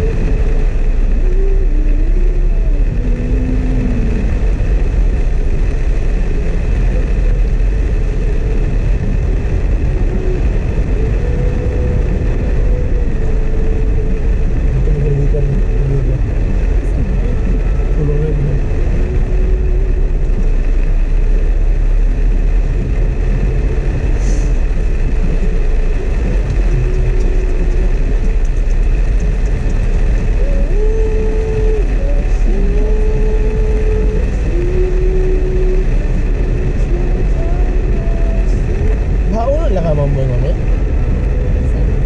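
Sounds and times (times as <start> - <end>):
car engine rumble and tyres: 0.0 - 42.0
rain hissing on car: 0.0 - 42.0.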